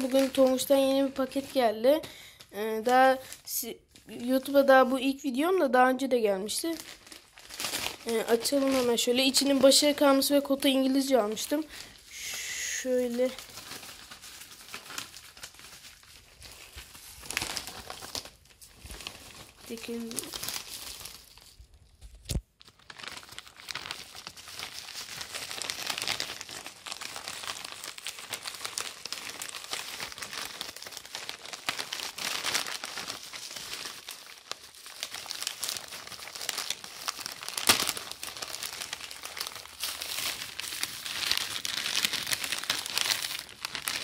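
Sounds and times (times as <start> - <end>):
plastic bag crinkling: 0.0 - 5.2, 6.3 - 44.0.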